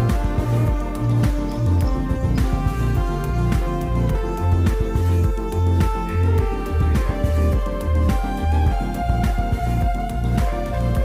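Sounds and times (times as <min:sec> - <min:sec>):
background music with bass beat: 0:00.0 - 0:11.0.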